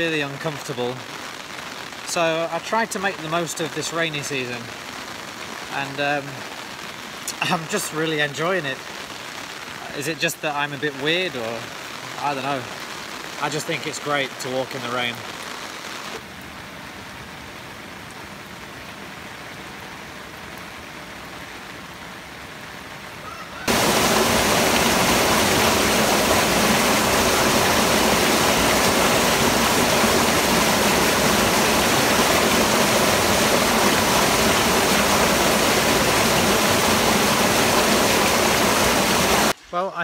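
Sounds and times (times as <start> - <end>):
rushing water: 0.0 - 39.6
steady rain: 0.0 - 40.0.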